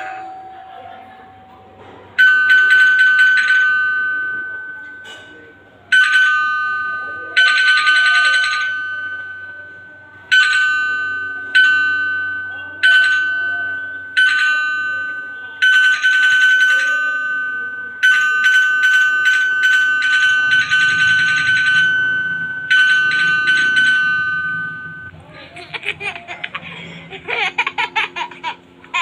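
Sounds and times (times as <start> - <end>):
bell-like chime ringing: 1.6 - 25.1.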